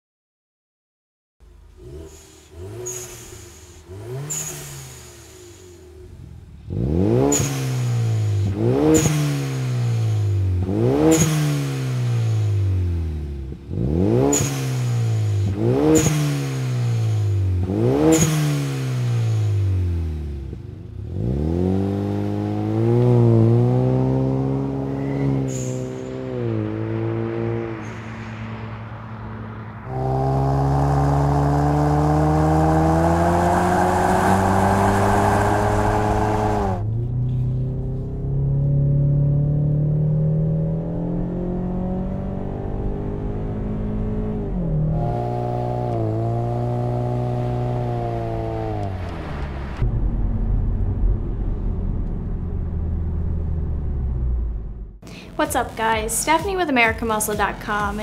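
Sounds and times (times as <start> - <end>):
car engine revving: 1.4 - 58.0
car accelerating away: 1.5 - 56.4.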